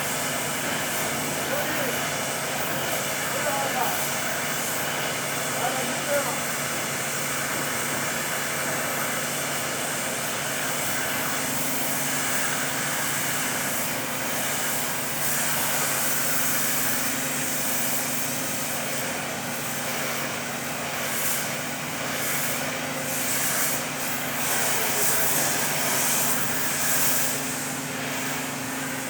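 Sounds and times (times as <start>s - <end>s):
machine humming and hissing: 0.0s - 29.0s.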